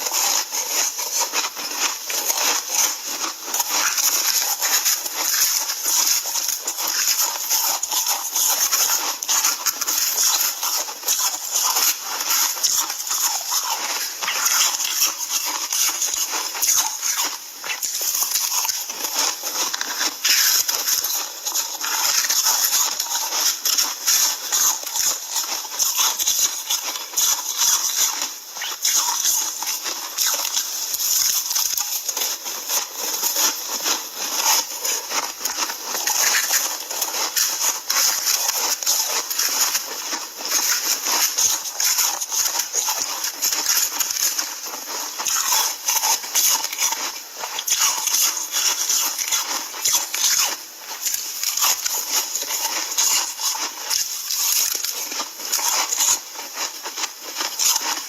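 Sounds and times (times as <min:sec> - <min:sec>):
ice crunching being chewed: 0:00.0 - 0:58.0.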